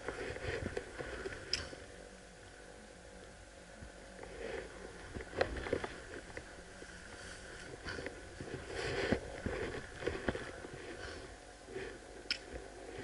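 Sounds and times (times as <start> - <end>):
dry grass rustling: 0.0 - 13.0.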